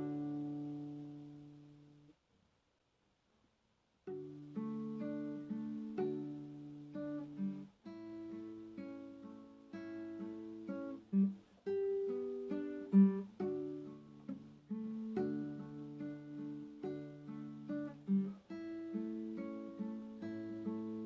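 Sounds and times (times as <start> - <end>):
acoustic guitar plucked chords: 0.0 - 2.0, 4.1 - 21.0.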